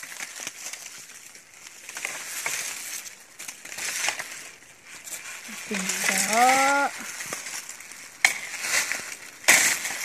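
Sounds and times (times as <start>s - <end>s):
dry bamboo leaves rustling: 0.0s - 10.0s.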